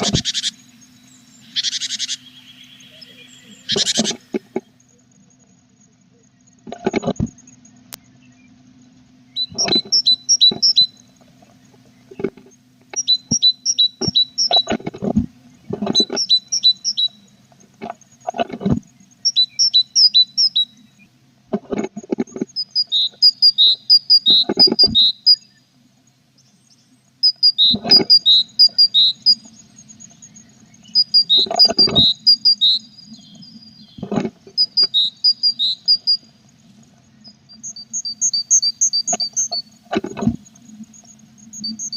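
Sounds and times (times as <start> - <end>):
nestlings chirping: 0.0 - 4.7, 8.9 - 21.1, 22.2 - 25.7, 26.4 - 41.9.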